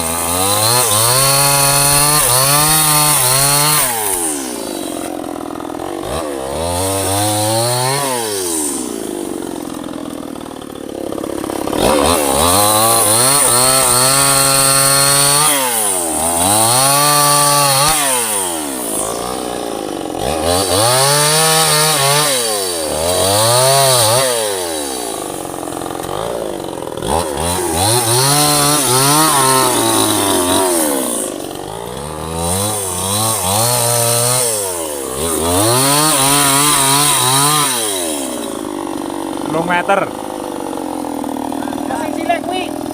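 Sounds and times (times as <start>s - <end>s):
chainsaw revving while cutting wood: 0.0s - 42.9s.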